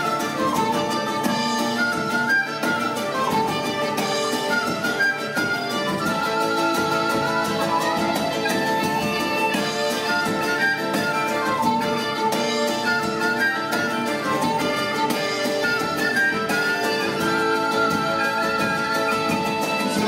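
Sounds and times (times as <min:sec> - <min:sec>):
folk band playing instrumental: 0:00.0 - 0:20.0.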